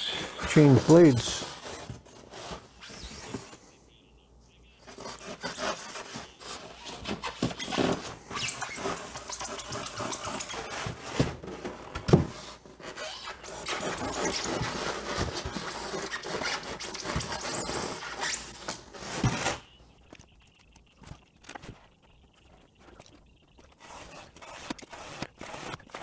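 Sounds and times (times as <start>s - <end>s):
styrofoam scraping and squeaking: 0.1s - 3.6s, 4.8s - 26.0s.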